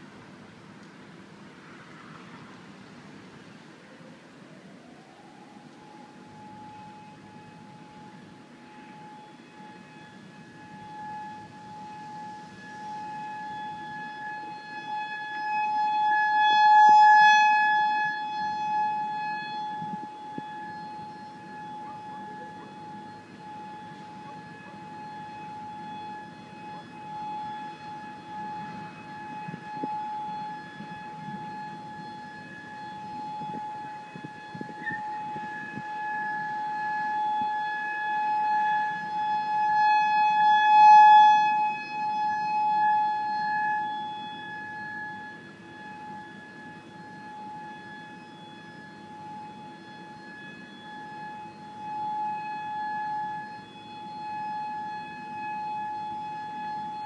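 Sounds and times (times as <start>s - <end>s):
tornado warning siren: 0.0s - 57.0s.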